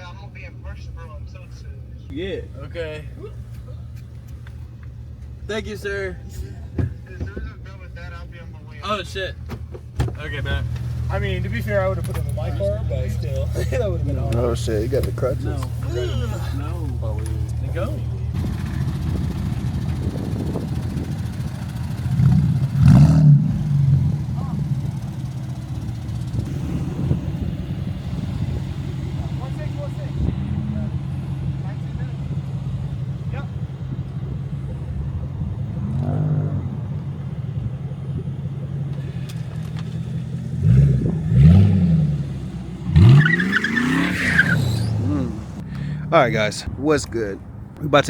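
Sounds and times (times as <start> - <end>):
vehicle engine rumbling and revving: 0.0 - 48.0.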